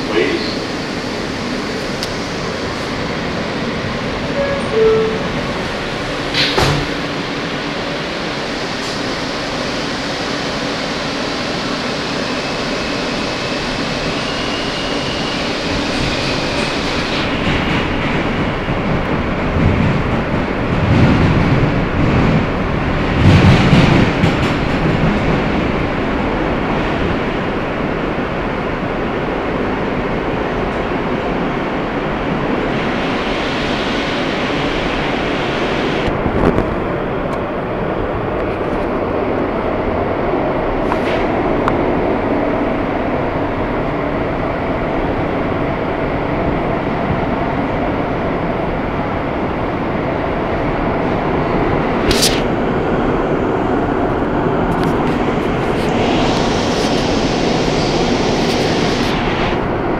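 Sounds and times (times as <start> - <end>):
subway wheels rumbling on rails: 0.0 - 59.9.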